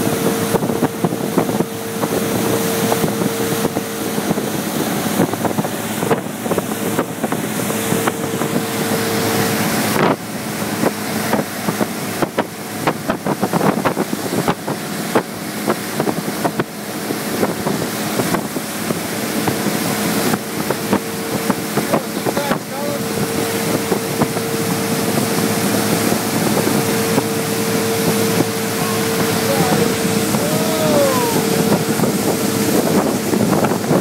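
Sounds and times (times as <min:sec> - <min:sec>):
motorboat engine hum: 0:00.0 - 0:34.0
rushing water: 0:00.0 - 0:34.0
wind noise on microphone: 0:00.0 - 0:34.0.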